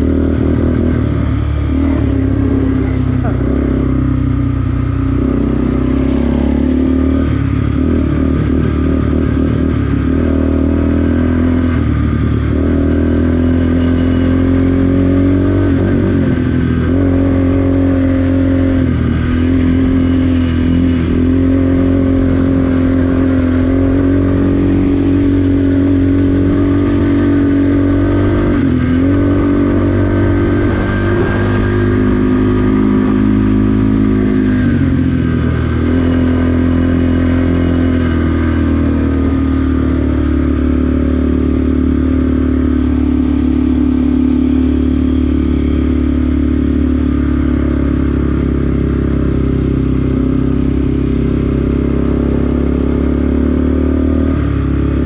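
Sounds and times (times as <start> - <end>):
quad engine running: 0.0 - 55.0.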